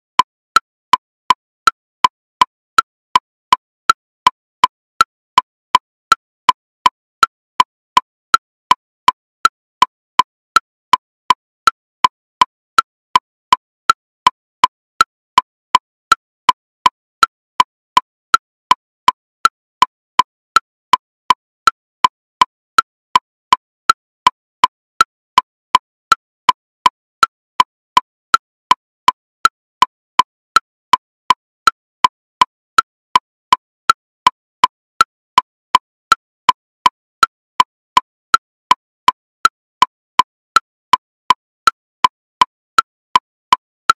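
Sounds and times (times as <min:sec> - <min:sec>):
woodblock metronome clicking: 0:00.2 - 0:44.0.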